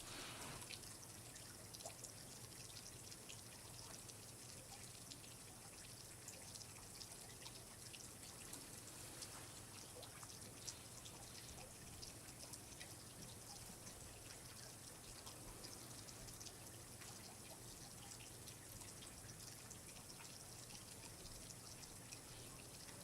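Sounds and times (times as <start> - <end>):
soft steady hiss: 0.0 - 23.0
water dripping and trickling: 0.0 - 23.0.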